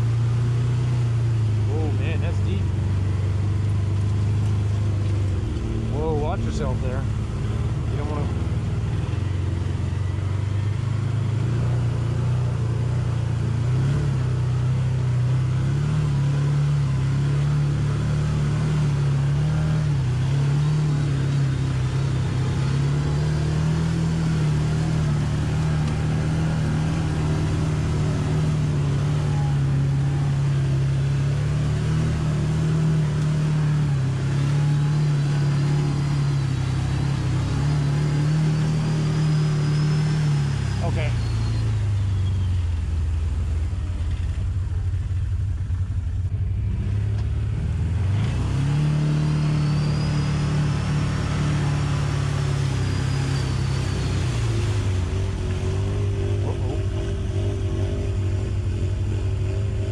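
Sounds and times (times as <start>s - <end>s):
off-road vehicle engine under load: 0.0s - 59.9s.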